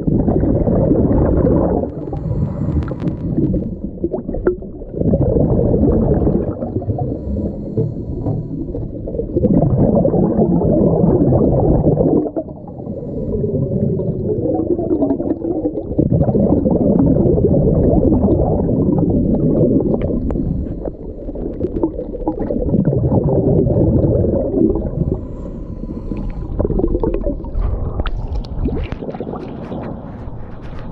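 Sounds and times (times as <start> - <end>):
underwater exhaled air bubbling: 0.0 - 30.9.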